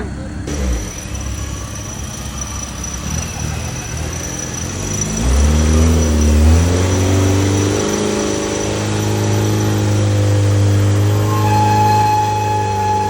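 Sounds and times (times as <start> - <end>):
engine revving under load: 0.0 - 13.0
steady high tone: 0.0 - 13.0.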